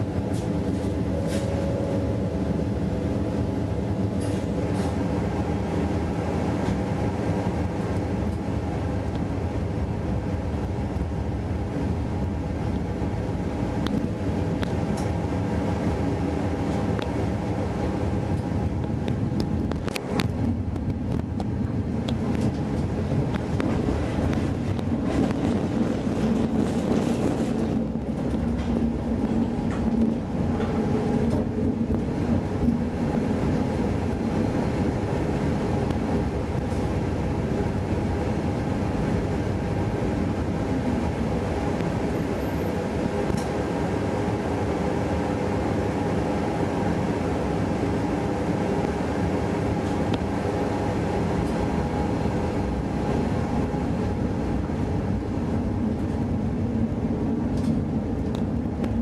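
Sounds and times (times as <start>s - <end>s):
tram wheels rumbling on rails: 0.0s - 59.0s.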